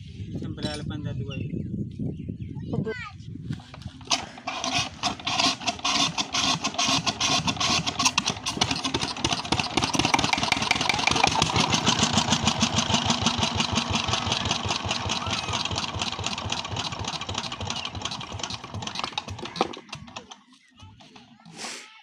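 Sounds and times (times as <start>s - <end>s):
diesel pump engine starting: 3.6s - 21.4s.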